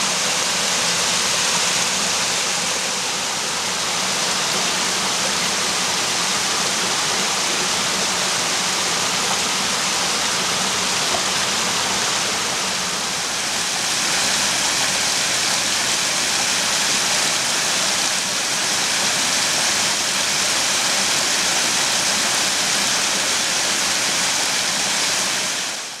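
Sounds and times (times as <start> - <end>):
stream water splashing over rocks: 0.0 - 26.0.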